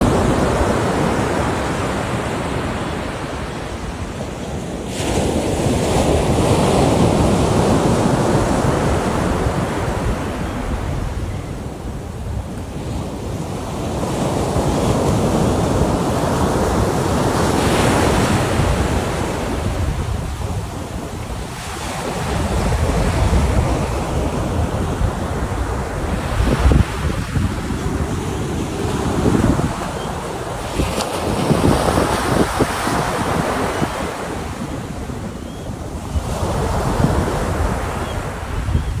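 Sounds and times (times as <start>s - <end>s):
waves breaking on a beach: 0.0s - 39.0s.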